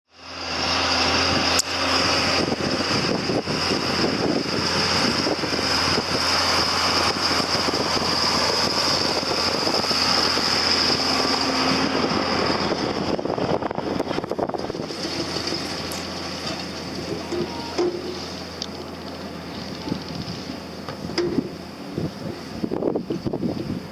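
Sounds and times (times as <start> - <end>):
vehicle engine running: 0.1 - 23.9
high whine: 0.2 - 23.8.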